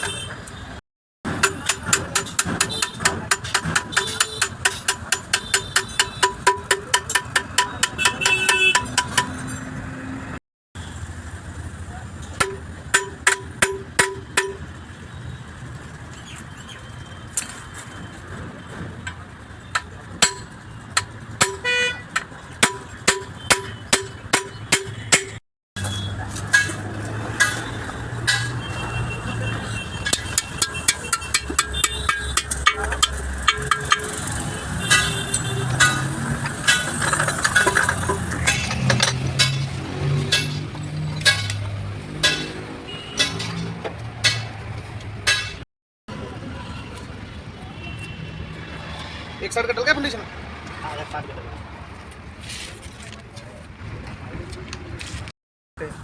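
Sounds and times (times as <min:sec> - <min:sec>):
workshop noise: 0:00.0 - 0:56.0.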